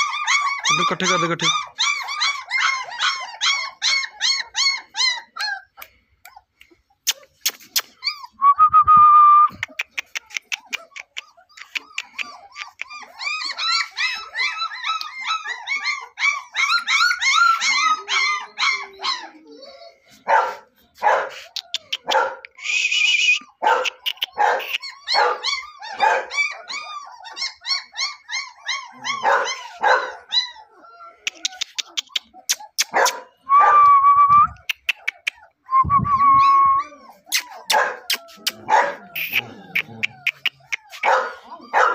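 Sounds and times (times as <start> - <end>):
puppies yelping barks: 0.0 - 8.4, 9.5 - 41.9
high puppy squeal: 0.0 - 8.5, 9.5 - 41.9
puppies yipping and whining: 0.0 - 8.6, 9.4 - 41.9.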